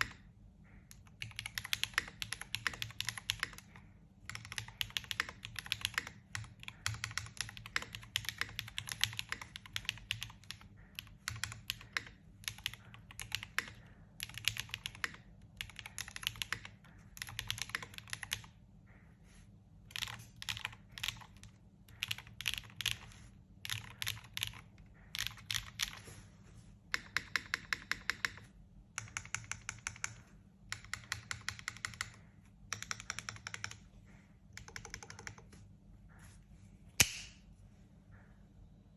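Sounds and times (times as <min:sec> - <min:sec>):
mechanical keyboard typing: 0:00.0 - 0:00.3, 0:00.9 - 0:18.6, 0:19.8 - 0:26.0, 0:26.9 - 0:33.9, 0:34.6 - 0:35.6.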